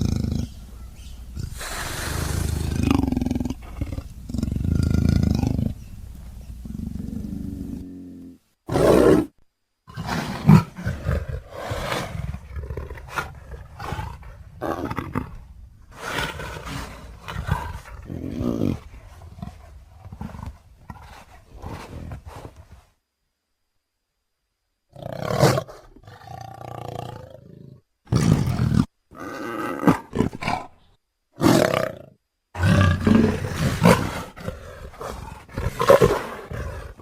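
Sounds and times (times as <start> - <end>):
leopard growling and roaring: 0.0 - 22.8, 24.9 - 37.0.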